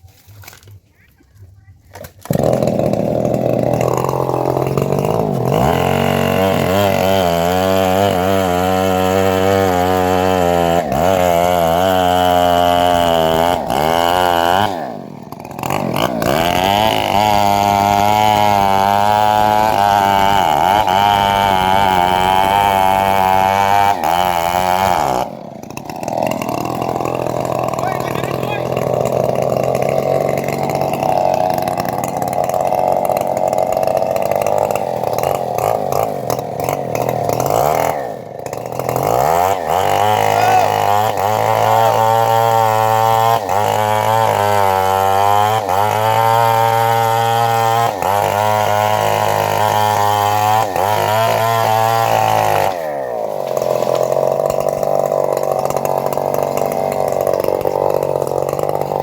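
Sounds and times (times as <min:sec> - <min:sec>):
bandsaw mill engine sawing wood: 0:01.9 - 0:59.0.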